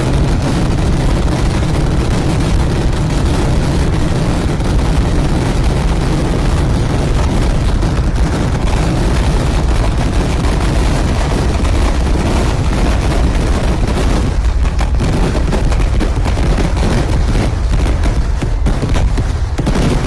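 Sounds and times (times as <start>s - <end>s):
fireworks barrage: 0.0s - 20.0s.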